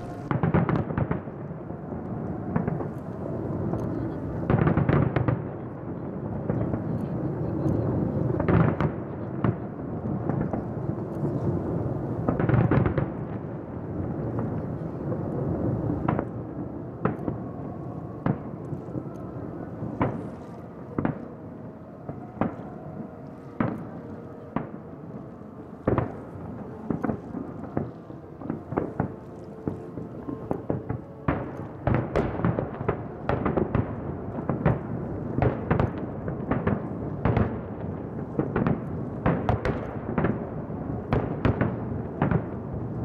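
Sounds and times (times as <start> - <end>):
fireworks bursting with booms and crackle: 0.0 - 25.1, 25.8 - 43.0.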